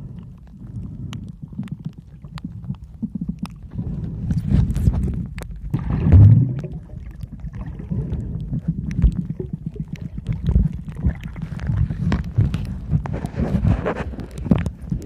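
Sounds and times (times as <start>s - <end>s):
muffled underwater rumbling: 0.0s - 15.0s
underwater clicks and crackles: 0.0s - 15.0s.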